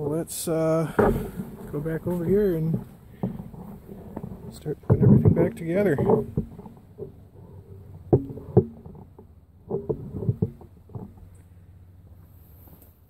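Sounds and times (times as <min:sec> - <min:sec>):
dull handling knocks: 0:00.8 - 0:11.4.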